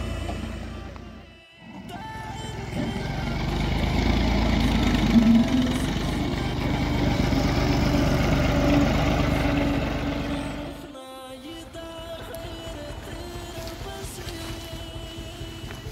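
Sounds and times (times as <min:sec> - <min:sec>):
tractor diesel engine passing: 0:00.0 - 0:11.0, 0:11.6 - 0:15.9.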